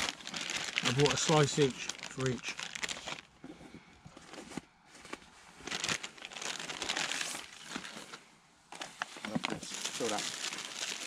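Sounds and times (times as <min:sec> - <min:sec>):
plastic bag crinkling: 0:00.0 - 0:03.3, 0:04.2 - 0:11.0.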